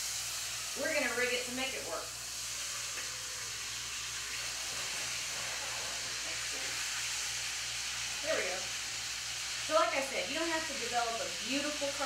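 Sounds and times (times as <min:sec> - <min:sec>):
beef sizzling in a pan: 0:00.0 - 0:12.0.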